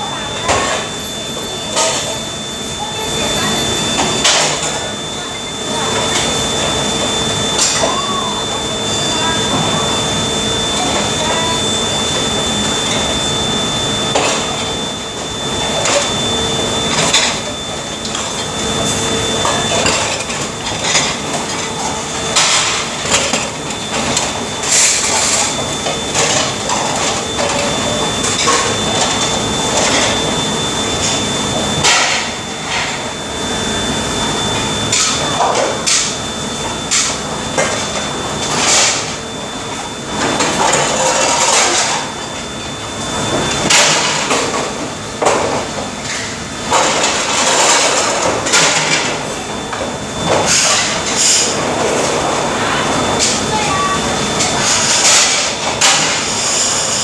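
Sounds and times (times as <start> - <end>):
thin high whine: 0.0 - 57.0.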